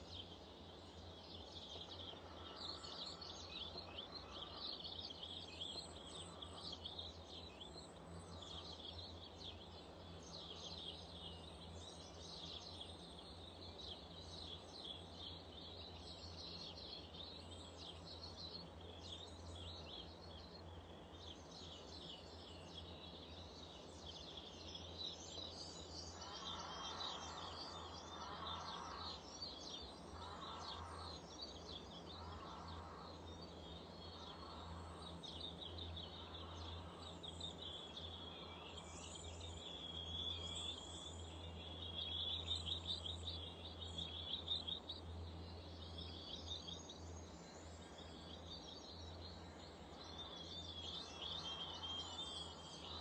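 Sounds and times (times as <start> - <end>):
songbirds chirping and twittering: 0.0 - 53.0.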